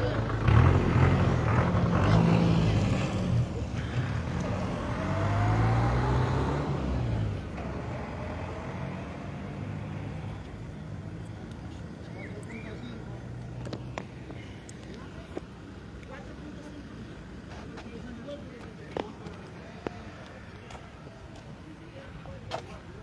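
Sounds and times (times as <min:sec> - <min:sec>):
vehicle engines running: 0:00.0 - 0:23.0.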